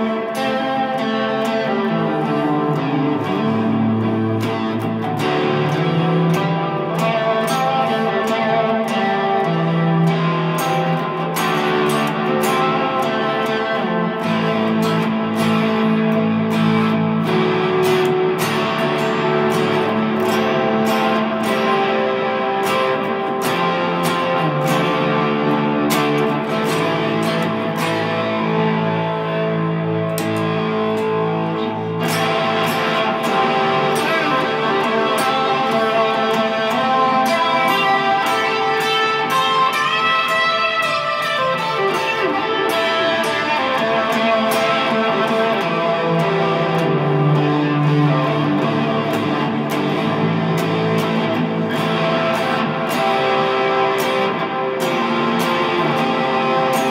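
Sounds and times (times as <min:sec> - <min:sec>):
electric guitar with effects: 0:00.0 - 0:56.9.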